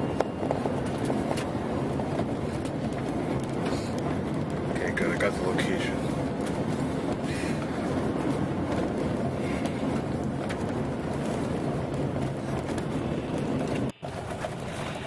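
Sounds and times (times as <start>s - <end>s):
road and engine noise in truck cab: 0.0s - 15.0s.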